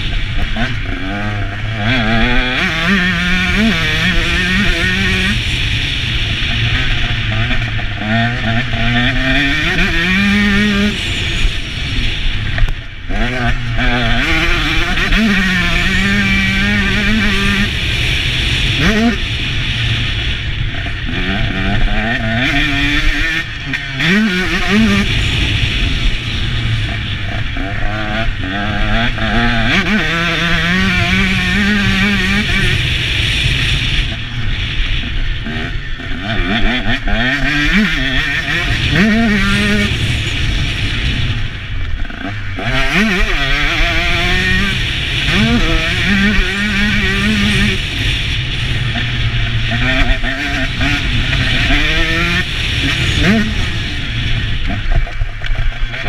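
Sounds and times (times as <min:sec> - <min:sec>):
motocross bike engine revving: 0:00.0 - 0:56.0
wind noise: 0:00.0 - 0:56.0.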